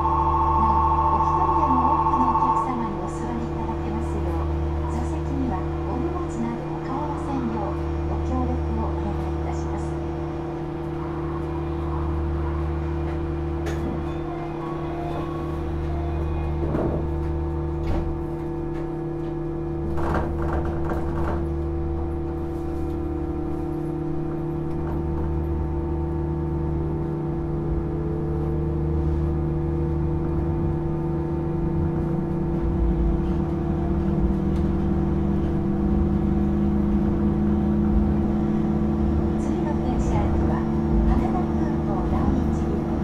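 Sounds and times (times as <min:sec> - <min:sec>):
low equipment hum: 0:00.0 - 0:43.0.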